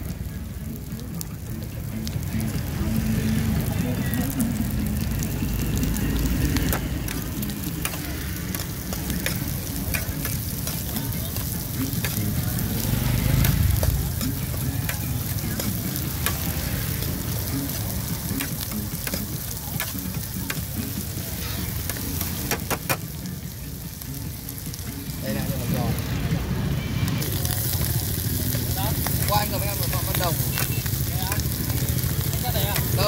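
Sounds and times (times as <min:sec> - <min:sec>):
corn sizzling in a metal pan: 0:00.0 - 0:33.0.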